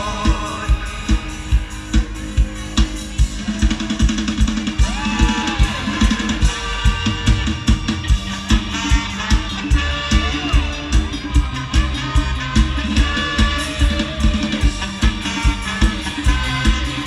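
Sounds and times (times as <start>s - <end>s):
live band music: 0.0s - 17.0s.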